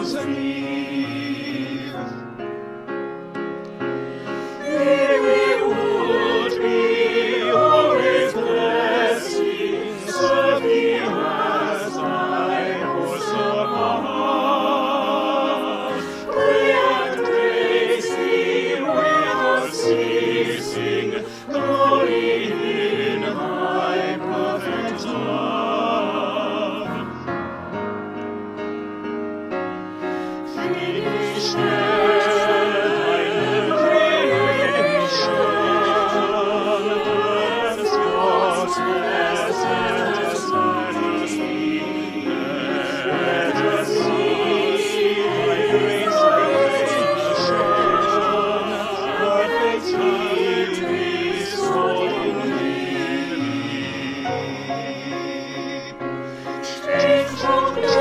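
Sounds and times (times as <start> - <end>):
choir singing a hymn: 0.0 - 2.6, 4.0 - 28.0, 29.8 - 58.0
grand piano: 0.0 - 58.0.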